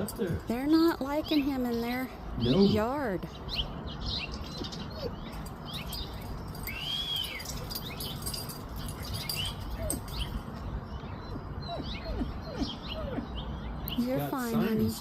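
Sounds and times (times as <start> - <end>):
songbirds chirping in alarm: 0.0 - 15.0.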